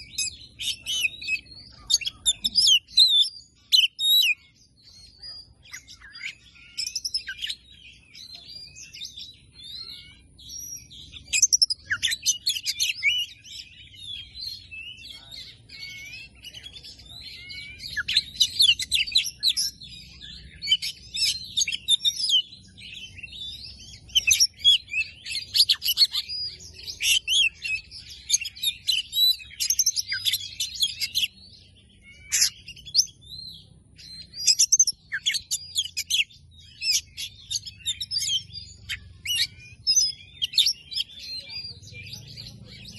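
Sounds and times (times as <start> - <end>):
bird singing whistles and trills: 0.0 - 42.9.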